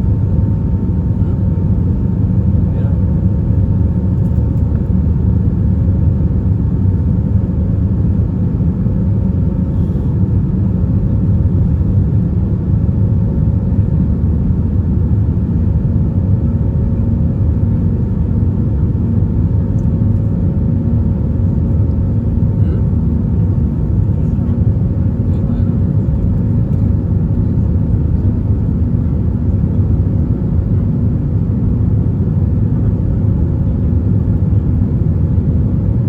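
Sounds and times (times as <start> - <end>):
airplane cabin rumble: 0.0 - 36.0.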